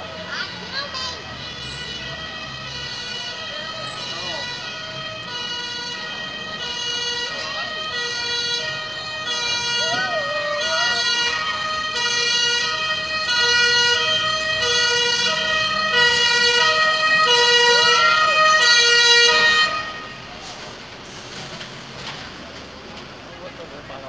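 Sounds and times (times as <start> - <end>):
two-tone siren: 0.0 - 20.4.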